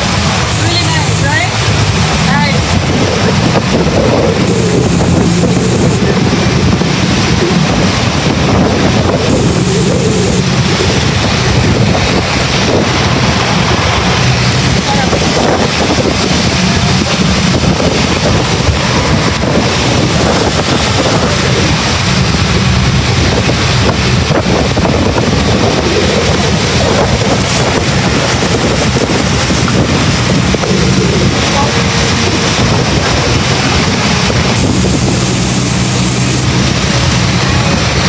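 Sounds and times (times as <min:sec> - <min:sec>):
boat motor running: 0:00.0 - 0:38.0
water rushing past hull: 0:00.0 - 0:38.0
wind buffeting microphone: 0:00.0 - 0:38.0.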